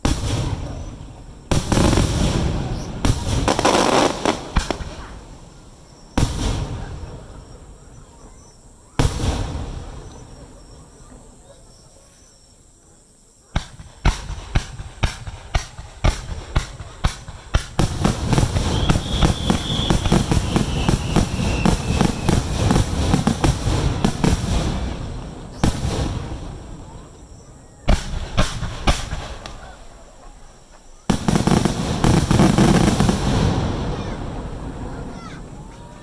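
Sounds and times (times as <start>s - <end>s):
fireworks bangs and crackles: 0.0s - 11.7s, 13.5s - 36.0s.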